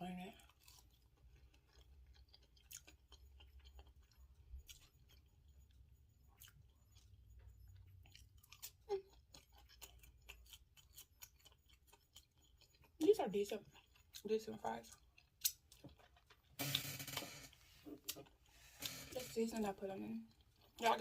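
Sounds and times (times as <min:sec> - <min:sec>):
chewing fries: 0:00.0 - 0:21.0.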